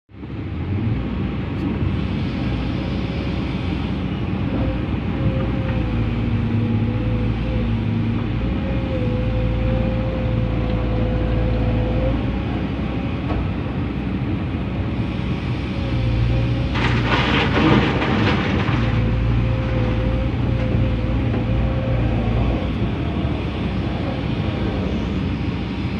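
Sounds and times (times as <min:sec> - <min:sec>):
excavator diesel engine humming: 0:00.1 - 0:25.9.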